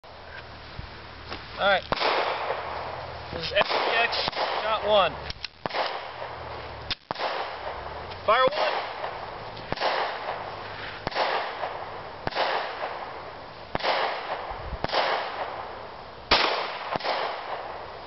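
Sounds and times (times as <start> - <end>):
echoing gunshots: 1.9 - 18.0.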